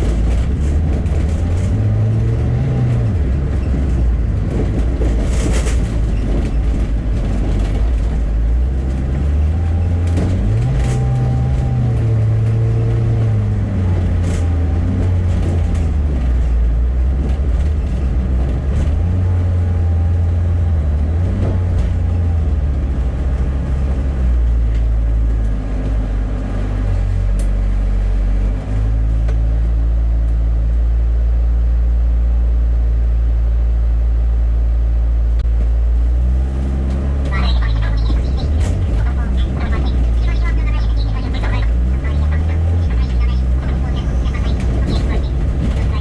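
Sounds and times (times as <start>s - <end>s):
bus engine drone: 0.0s - 46.0s.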